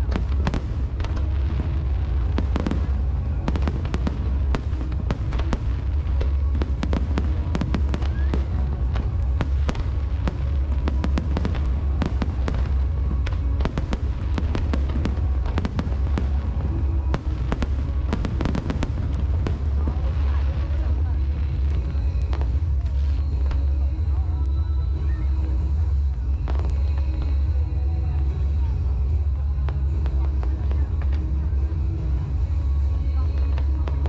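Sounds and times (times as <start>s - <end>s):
fireworks crackles and bangs: 0.0s - 34.0s
low rumble: 0.0s - 34.0s.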